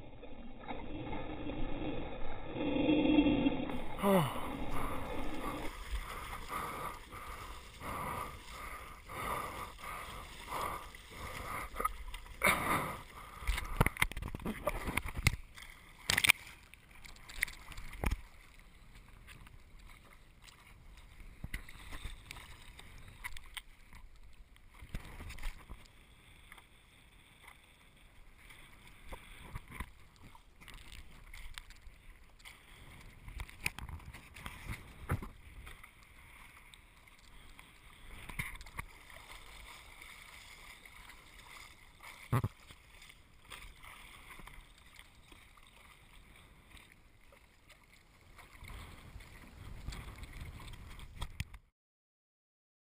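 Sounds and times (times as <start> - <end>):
water lapping: 0.0 - 51.5
sea water splashing: 0.0 - 51.6.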